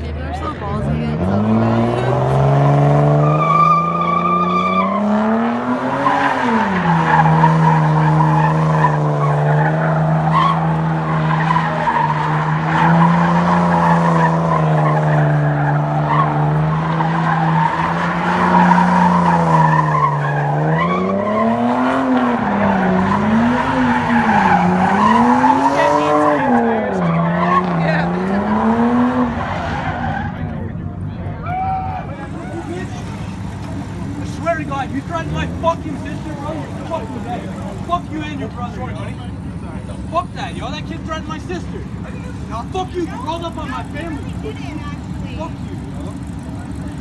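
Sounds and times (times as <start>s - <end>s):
car engine revving high: 0.5s - 30.6s, 32.0s - 47.0s
tyres spinning and squealing: 0.5s - 47.0s.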